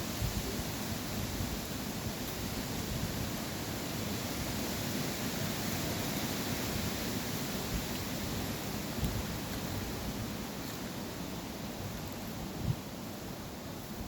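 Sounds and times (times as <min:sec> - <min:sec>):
wind through forest trees: 0:00.0 - 0:14.0.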